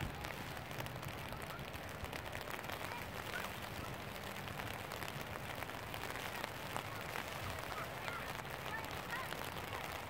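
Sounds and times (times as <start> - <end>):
light rain pattering: 0.0 - 10.0.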